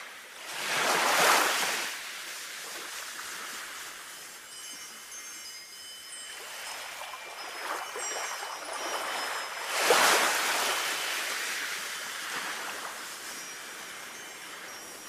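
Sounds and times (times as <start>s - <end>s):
sea waves breaking on shore: 0.0s - 15.0s
faint wind chimes: 1.7s - 15.0s.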